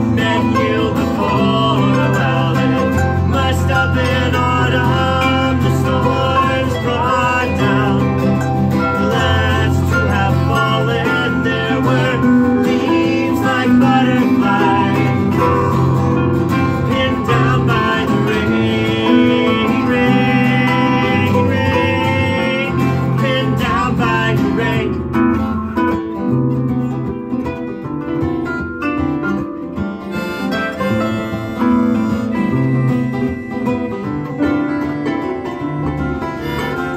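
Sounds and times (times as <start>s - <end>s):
wavering melody line: 0.0s - 26.0s, 30.0s - 36.9s
acoustic guitar: 0.0s - 36.9s
harp: 0.0s - 36.9s.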